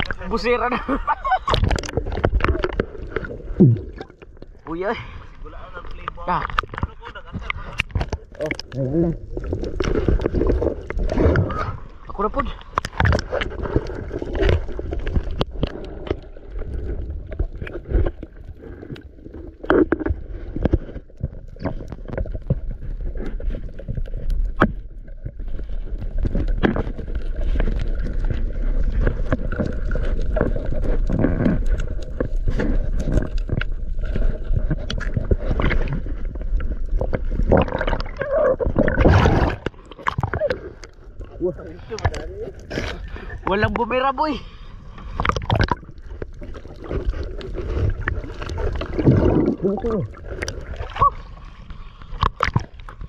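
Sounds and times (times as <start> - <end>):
sea water splashing: 0.0 - 53.0.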